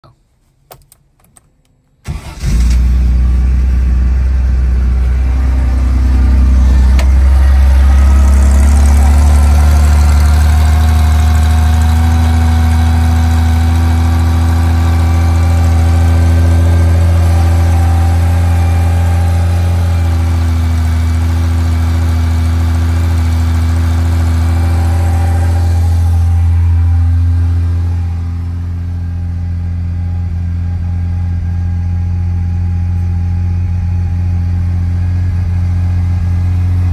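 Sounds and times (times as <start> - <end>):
car engine starting and idling: 0.7 - 36.9.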